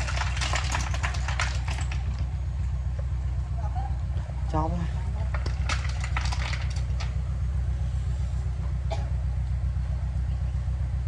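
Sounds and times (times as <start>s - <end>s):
heavy diesel engine throbbing: 0.0s - 11.0s.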